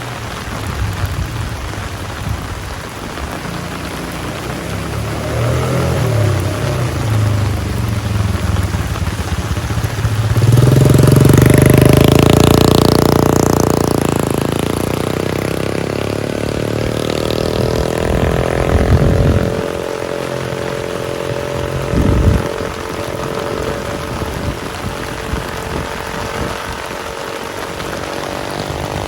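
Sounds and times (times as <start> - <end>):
rain: 0.0 - 29.0
vehicle engine passing: 3.0 - 29.0.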